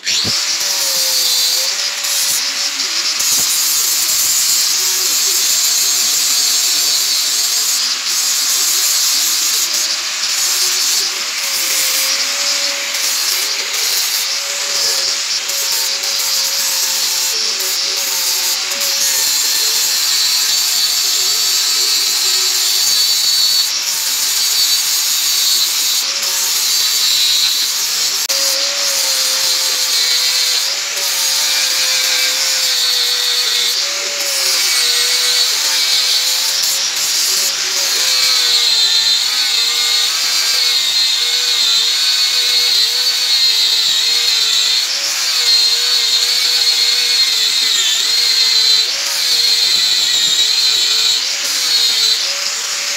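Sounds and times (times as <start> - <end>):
angle grinder grinding metal: 0.0 - 52.9.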